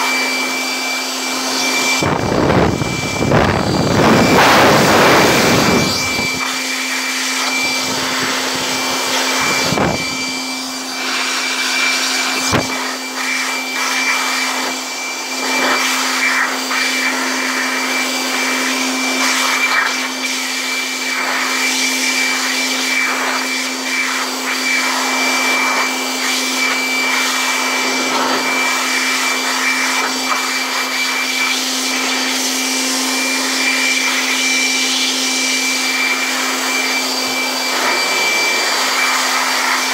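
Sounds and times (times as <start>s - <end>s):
electric air blower running: 0.0s - 39.9s.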